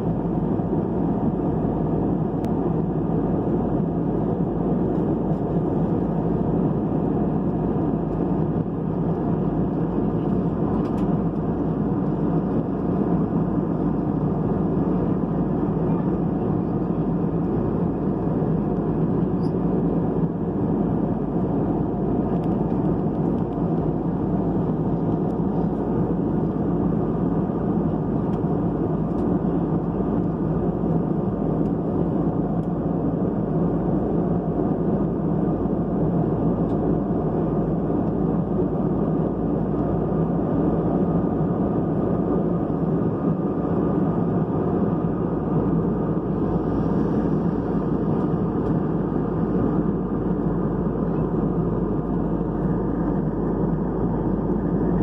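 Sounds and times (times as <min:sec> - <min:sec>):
airflow rush in jet cabin: 0:00.0 - 0:55.0
jet engines: 0:00.0 - 0:55.0.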